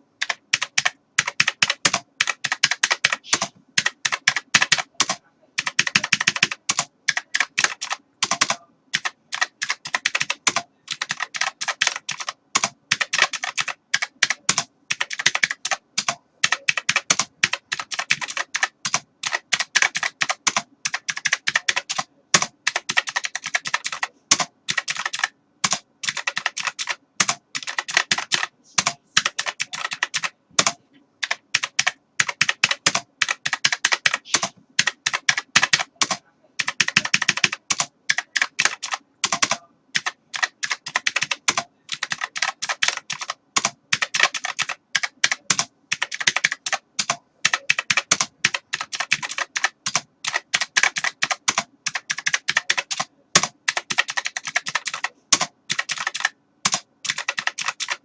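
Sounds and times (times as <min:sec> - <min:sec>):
computer keyboard typing: 0:00.2 - 0:58.0.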